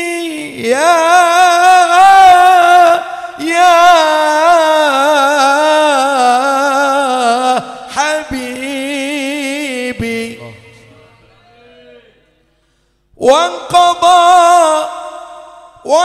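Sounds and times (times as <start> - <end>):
man singing with vibrato: 0.0 - 12.5, 13.1 - 16.0.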